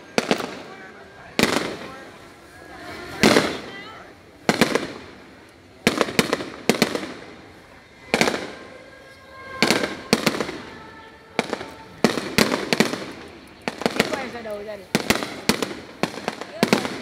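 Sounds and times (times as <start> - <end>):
fireworks bangs with crackle: 0.0 - 8.8, 9.4 - 17.0.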